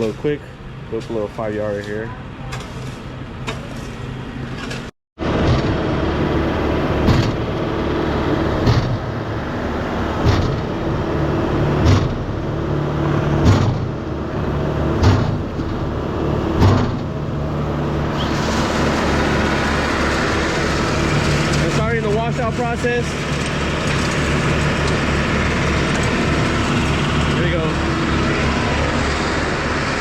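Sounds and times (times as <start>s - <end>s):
concrete pump running: 0.0s - 30.0s.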